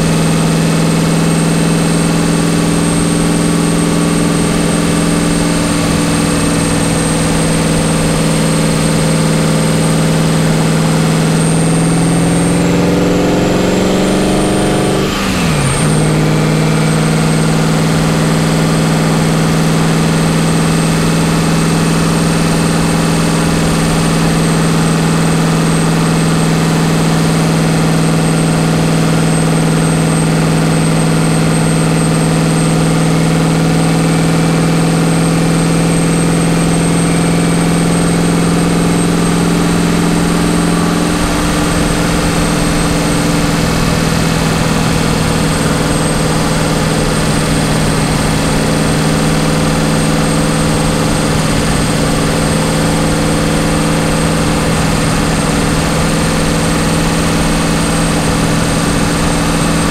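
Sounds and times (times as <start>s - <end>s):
turbocharged car engine revving: 0.0s - 59.9s
wind and road noise: 0.0s - 59.9s.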